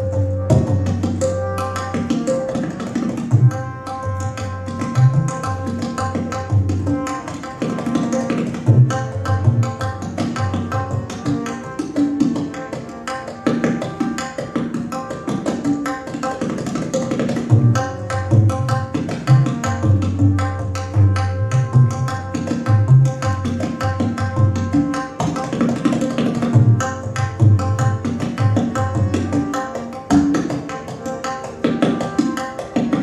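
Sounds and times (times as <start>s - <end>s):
fast tabla strokes: 0.0s - 33.0s.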